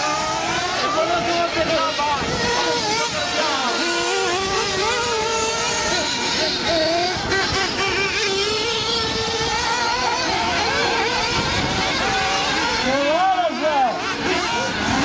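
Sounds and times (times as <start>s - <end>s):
rc car engines buzzing: 0.0s - 15.0s.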